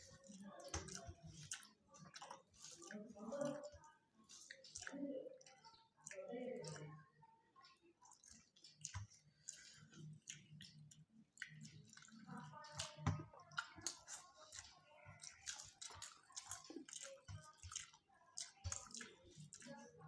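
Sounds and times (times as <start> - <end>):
food squished by hand: 0.0 - 6.9, 8.0 - 20.0
chewing: 0.0 - 7.0, 7.6 - 20.0.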